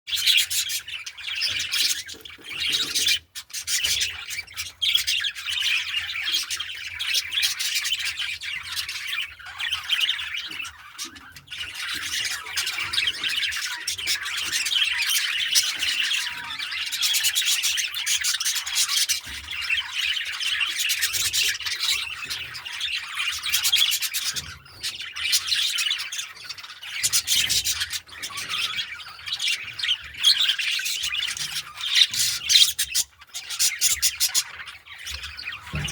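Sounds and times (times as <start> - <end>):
budgerigars chattering: 0.1 - 35.9.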